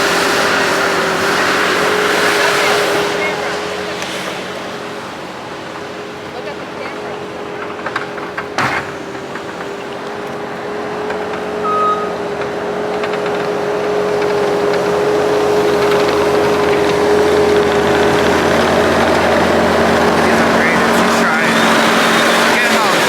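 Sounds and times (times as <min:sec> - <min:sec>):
motor engine whining: 0:00.0 - 0:23.0.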